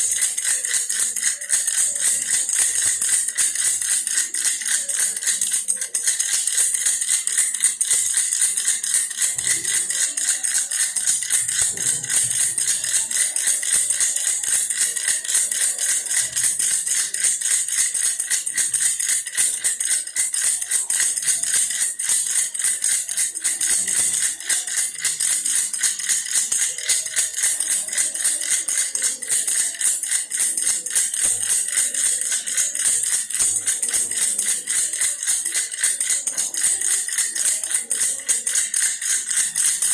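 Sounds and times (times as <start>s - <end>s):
plastic toy rattle shaken: 0.0s - 39.9s.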